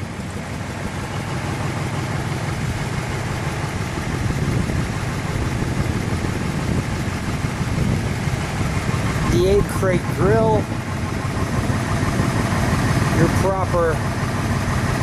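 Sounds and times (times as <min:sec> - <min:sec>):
car engine running slowly: 0:00.0 - 0:15.0.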